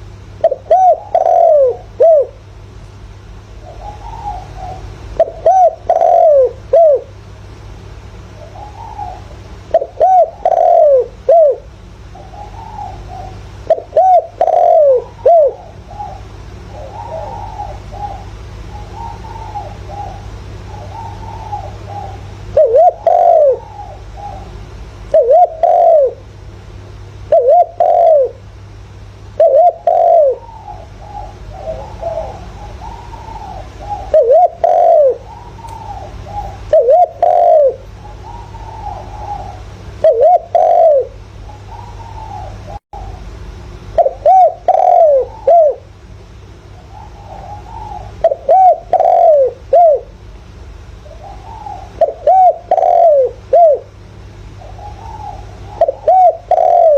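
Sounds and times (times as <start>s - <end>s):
dove cooing: 0.0s - 2.5s, 3.2s - 7.2s, 8.1s - 26.4s, 27.2s - 28.6s, 29.3s - 50.3s, 50.9s - 56.9s
low steady hum: 0.0s - 56.9s.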